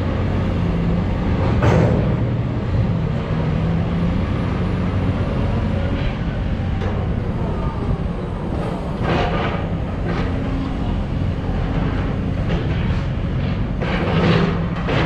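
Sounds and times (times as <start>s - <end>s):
diesel engine of heavy machinery: 0.0s - 15.0s
harsh work noises: 0.0s - 15.0s.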